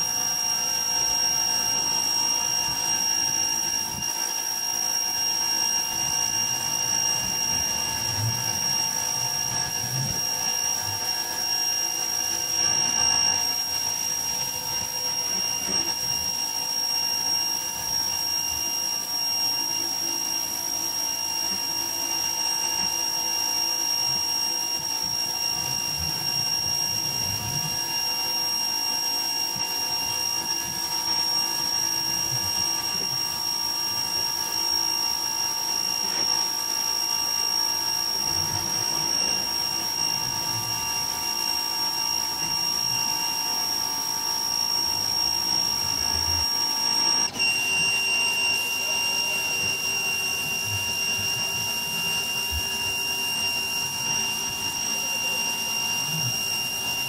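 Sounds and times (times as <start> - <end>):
pressure washer motor whining: 0.0 - 57.0.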